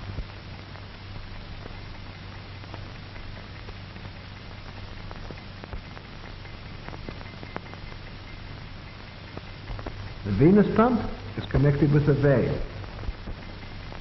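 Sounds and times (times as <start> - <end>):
crackling clicks: 0.0 - 14.0
film hiss: 0.0 - 14.0
low hum: 0.0 - 14.0.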